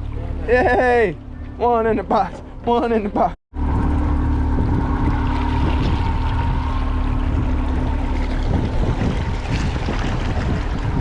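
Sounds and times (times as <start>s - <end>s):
boat motor running: 0.0s - 11.0s
water rushing along hull: 0.0s - 11.0s.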